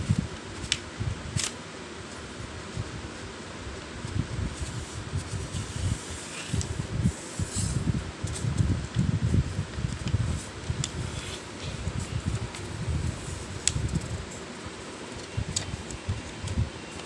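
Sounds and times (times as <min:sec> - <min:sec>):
room fan low rumble: 0:00.0 - 0:17.0.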